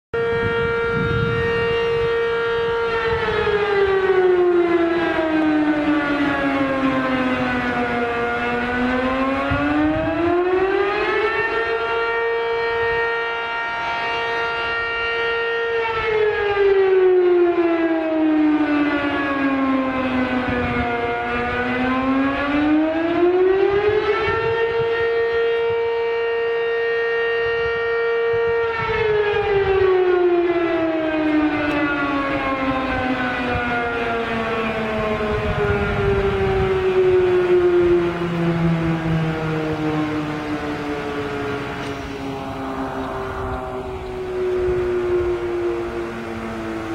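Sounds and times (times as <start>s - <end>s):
alarm siren wailing: 0.1s - 46.9s.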